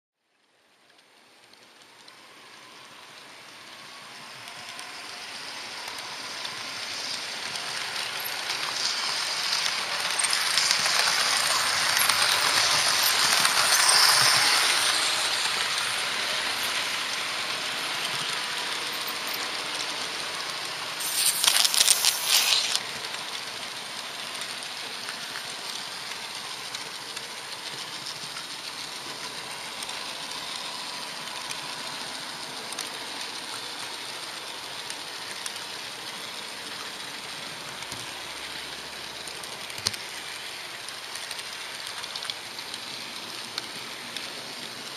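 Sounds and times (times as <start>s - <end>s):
train wheels hissing on rails: 1.5s - 39.6s.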